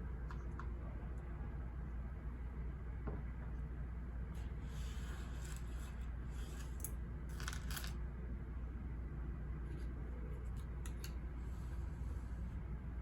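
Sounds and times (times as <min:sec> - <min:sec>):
low white noise: 0:00.0 - 0:13.0.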